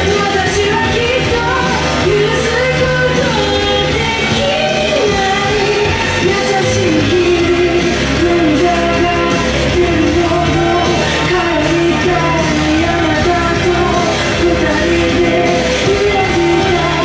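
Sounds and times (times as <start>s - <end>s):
song with sung melody: 0.0s - 17.0s.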